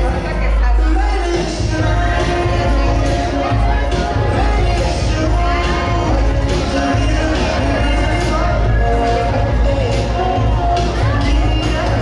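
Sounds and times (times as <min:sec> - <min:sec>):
crowd voices: 0:00.0 - 0:12.0
live band music through speakers: 0:00.0 - 0:12.0.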